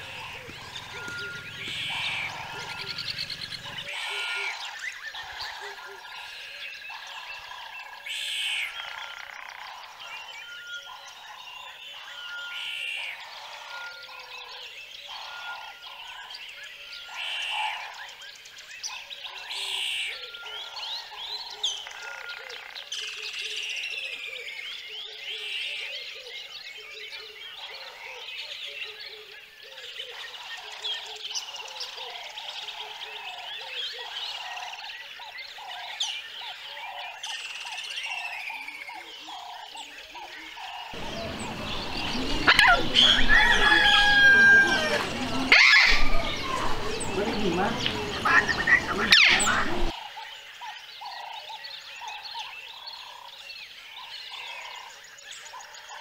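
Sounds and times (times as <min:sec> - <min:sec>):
birds chirping and singing: 0:00.0 - 0:56.0
frogs croaking: 0:00.0 - 0:56.0.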